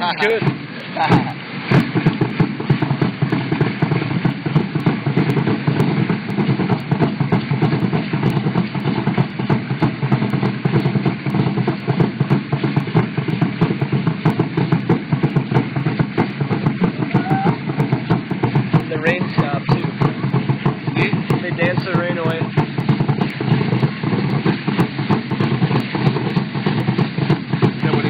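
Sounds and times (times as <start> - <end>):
drum beating fast rhythm: 0.0 - 28.0.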